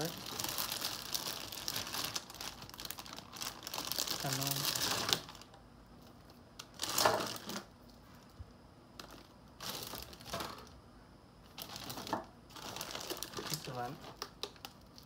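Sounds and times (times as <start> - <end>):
plastic bags crinkling: 0.0 - 7.7, 9.0 - 10.8, 11.5 - 15.0.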